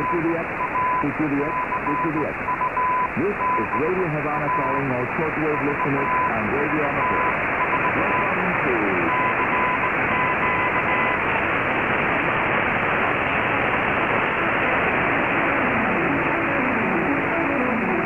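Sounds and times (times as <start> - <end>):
radio static: 0.0 - 18.0.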